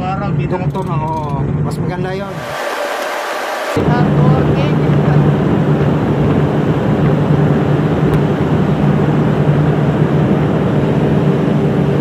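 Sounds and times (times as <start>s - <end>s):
ship machinery droning: 2.3s - 12.0s.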